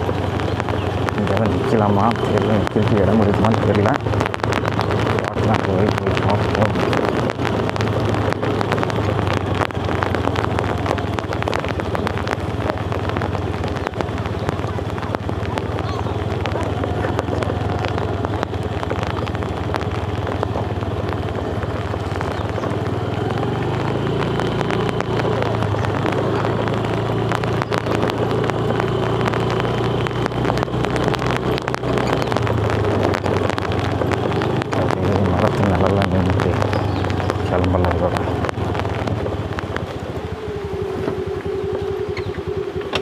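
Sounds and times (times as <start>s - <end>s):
heavy rain: 0.0s - 43.0s
motorcycle engine running: 0.0s - 43.0s
wind on microphone: 0.0s - 43.0s.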